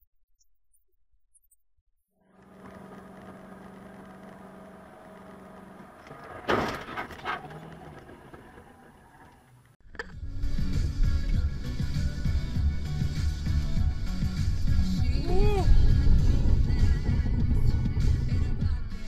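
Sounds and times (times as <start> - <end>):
car road and engine noise: 2.3 - 19.0.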